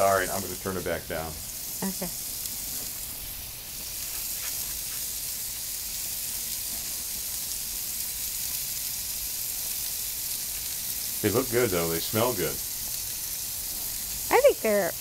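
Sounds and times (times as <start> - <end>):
burger patties sizzling: 0.0 - 15.0.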